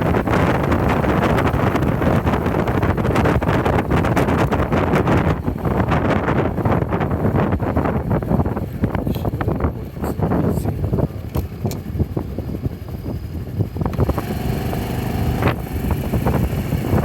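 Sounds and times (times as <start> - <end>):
motorcycle engine running: 0.0 - 17.0
wind noise on microphone: 0.0 - 17.0.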